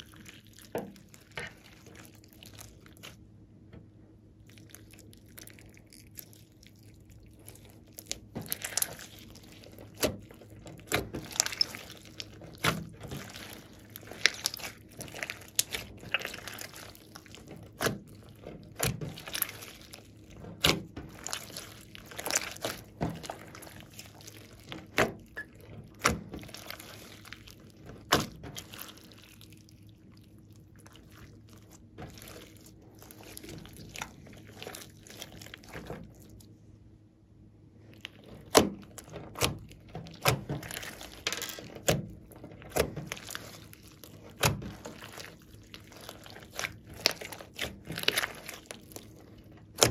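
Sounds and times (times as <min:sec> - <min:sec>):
slime squishing: 0:00.0 - 0:49.9.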